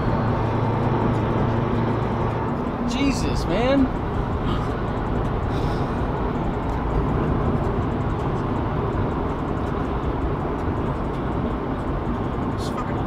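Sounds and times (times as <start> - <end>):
car road noise from inside: 0.0 - 13.0.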